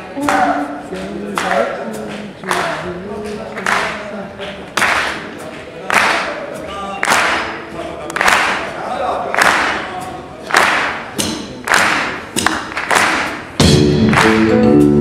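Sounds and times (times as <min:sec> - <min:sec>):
full band playing loudly: 0:00.0 - 0:15.0.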